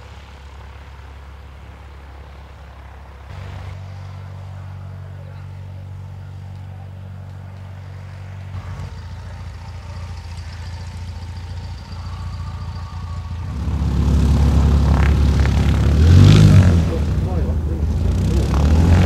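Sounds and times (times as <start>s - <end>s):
piston aircraft engine idling: 0.0s - 19.0s.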